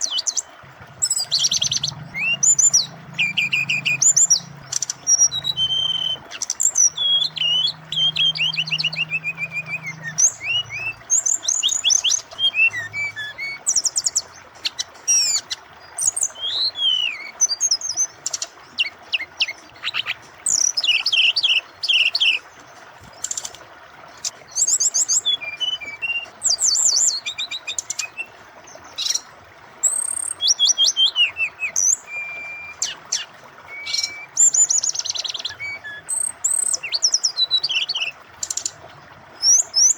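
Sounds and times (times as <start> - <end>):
bird singing: 0.0 - 23.6, 24.2 - 39.9
flowing water: 0.0 - 39.9.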